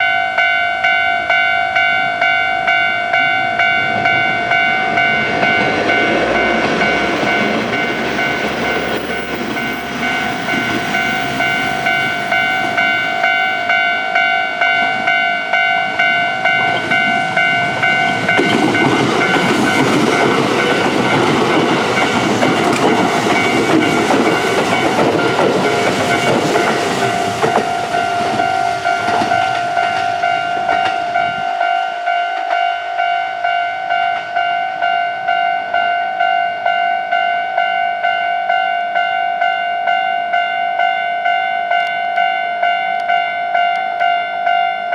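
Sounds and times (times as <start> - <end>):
level crossing alarm bell ringing: 0.0 - 44.9
train passing with wheel clatter: 0.0 - 44.9.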